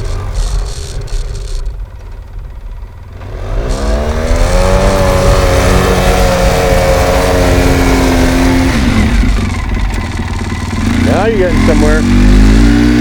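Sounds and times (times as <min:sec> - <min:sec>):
off-road vehicle engine revving: 0:00.0 - 0:01.9, 0:02.7 - 0:13.0.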